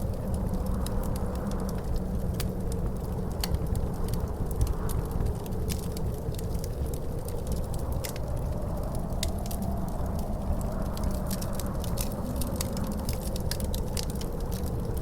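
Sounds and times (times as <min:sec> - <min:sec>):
faint wind howl: 0:00.0 - 0:15.0
wood fire crackling: 0:00.0 - 0:15.0.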